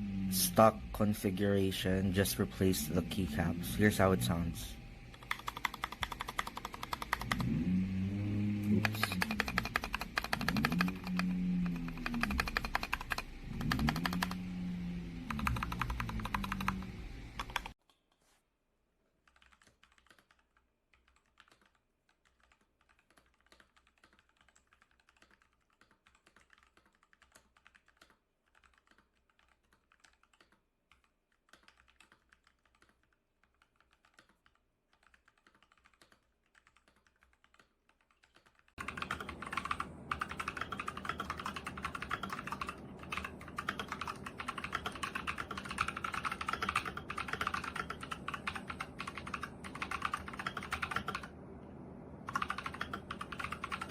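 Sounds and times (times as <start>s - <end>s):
mechanical keyboard typing: 5.2s - 7.6s, 8.6s - 14.5s, 15.2s - 17.8s, 19.3s - 51.4s, 52.2s - 53.9s.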